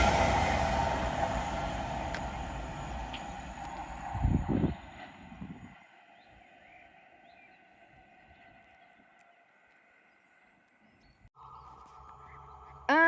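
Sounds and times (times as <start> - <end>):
passing train: 0.0 - 13.0.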